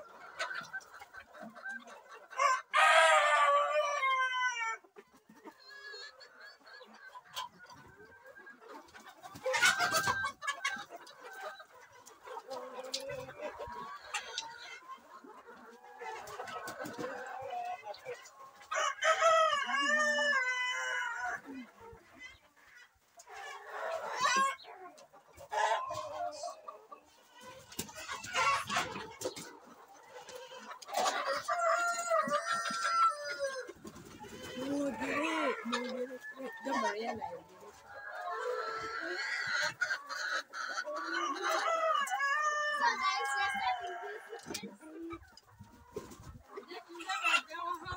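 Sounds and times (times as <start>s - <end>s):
chickens clucking: 0.0s - 47.9s
chickens squawking: 0.0s - 47.9s.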